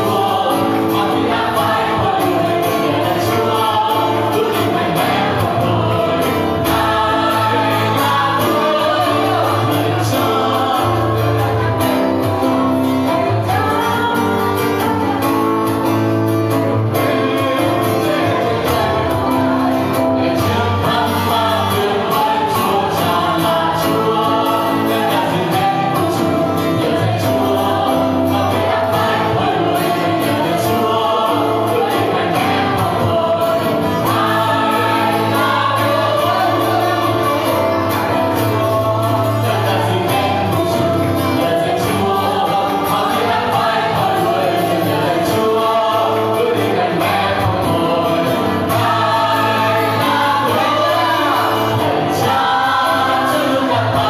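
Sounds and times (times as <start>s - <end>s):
man singing into microphone: 0.0s - 15.6s, 16.6s - 54.0s
acoustic guitar strumming: 0.0s - 54.0s
group of voices singing: 0.0s - 54.0s.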